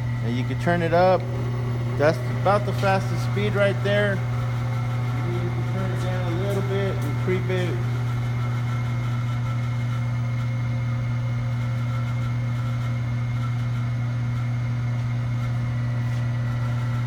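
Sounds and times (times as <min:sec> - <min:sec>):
lathe motor humming: 0:00.0 - 0:17.0.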